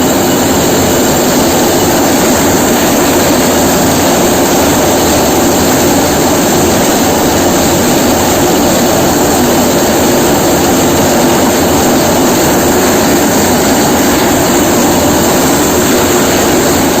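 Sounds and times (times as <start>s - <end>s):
cutting machine droning: 0.0s - 17.0s.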